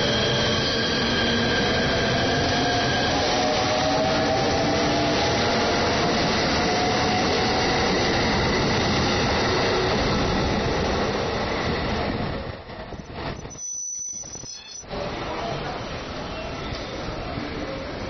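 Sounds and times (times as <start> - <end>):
faint train whine: 0.0 - 18.0.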